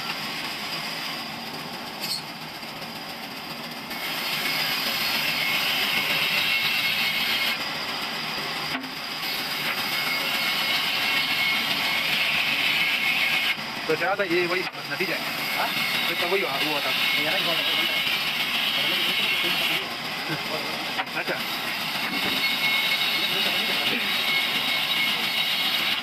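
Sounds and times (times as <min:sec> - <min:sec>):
band saw cutting wood: 0:03.9 - 0:26.0.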